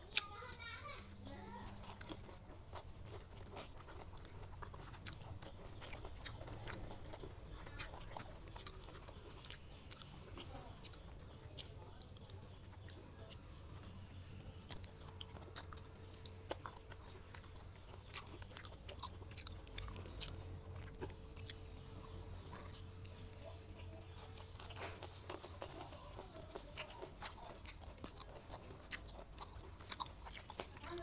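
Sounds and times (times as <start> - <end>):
wet chewing: 0.0 - 31.0.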